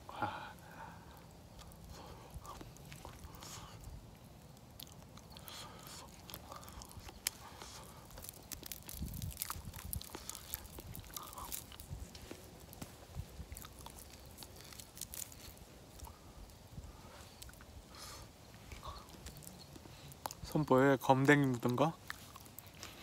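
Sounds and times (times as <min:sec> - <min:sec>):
chewing with mouth clicks: 0:01.1 - 0:20.5, 0:21.3 - 0:23.0.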